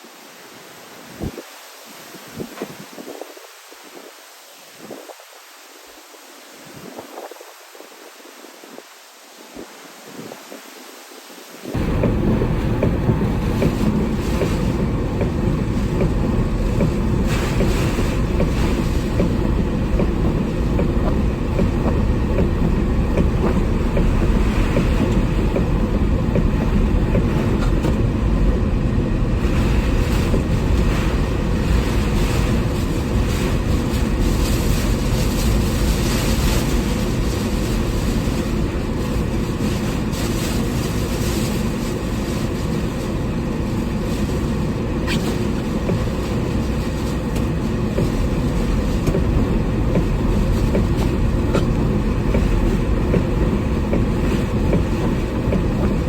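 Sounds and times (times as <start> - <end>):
wind and rain rumble: 0.0 - 56.0.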